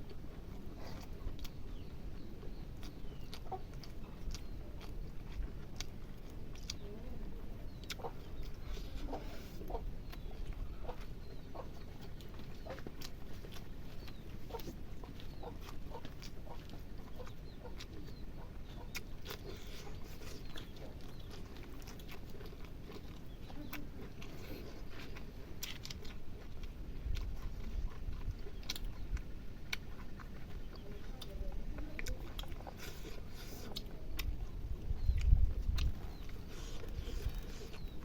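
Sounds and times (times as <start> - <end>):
chewing with wet mouth smacks: 0.0 - 38.0.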